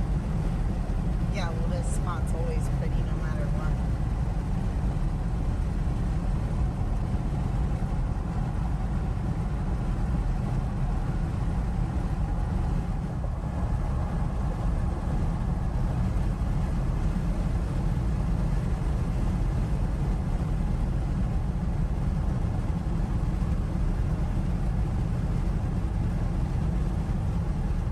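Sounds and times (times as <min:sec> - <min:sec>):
vehicle cabin road rumble: 0:00.0 - 0:27.9.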